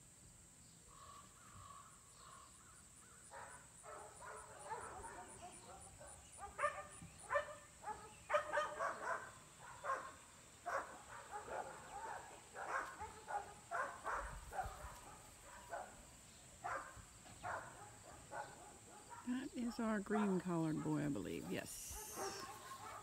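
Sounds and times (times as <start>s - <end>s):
puppies barking and yipping: 3.3s - 16.0s, 16.6s - 23.0s.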